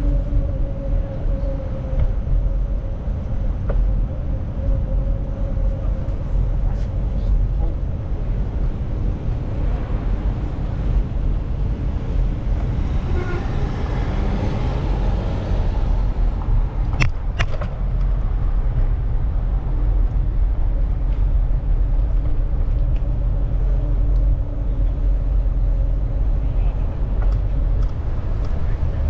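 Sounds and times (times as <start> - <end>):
low rumble: 0.0 - 29.0
street traffic: 0.0 - 29.0.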